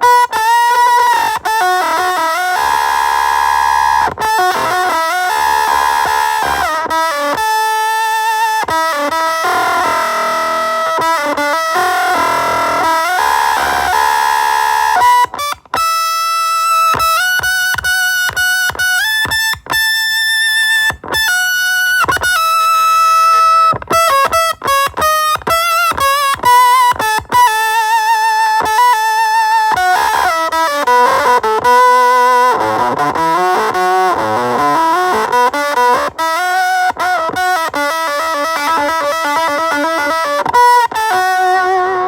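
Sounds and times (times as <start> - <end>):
fuzz electric guitar notes: 0.0 - 42.0.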